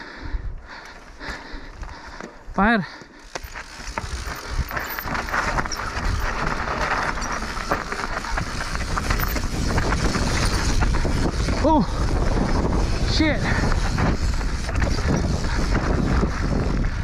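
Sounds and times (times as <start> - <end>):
bike tyres rolling on dirt: 0.0 - 17.0
bike rattling over bumps: 0.6 - 17.0.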